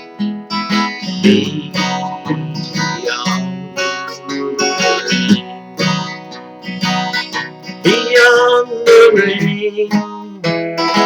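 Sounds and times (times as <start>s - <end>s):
acoustic guitar strummed and picked: 0.0s - 11.0s.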